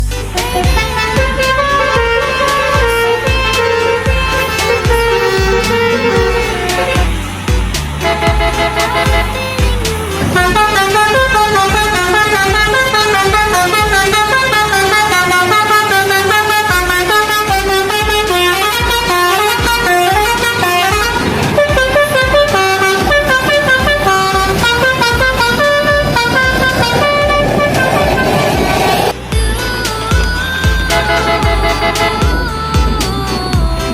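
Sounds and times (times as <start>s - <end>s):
bus horn playing melody: 0.0s - 33.9s
steady low beat: 0.0s - 33.9s.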